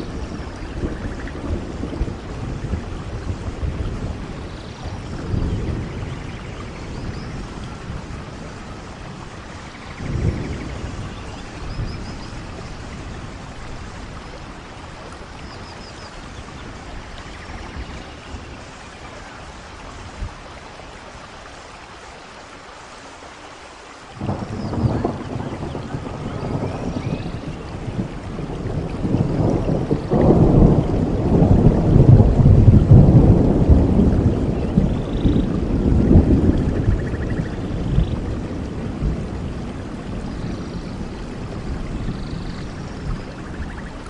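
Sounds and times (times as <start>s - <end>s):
thunder rumbling: 0.0s - 21.3s, 24.2s - 44.0s
steady rain: 0.0s - 44.0s.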